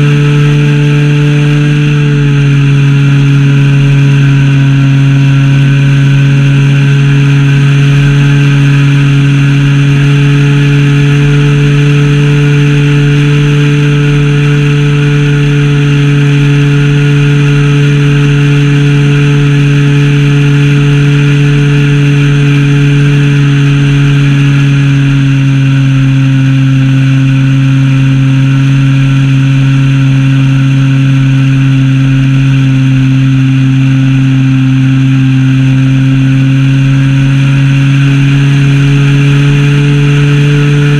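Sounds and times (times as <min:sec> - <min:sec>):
model plane engine running: 0:00.0 - 0:40.9.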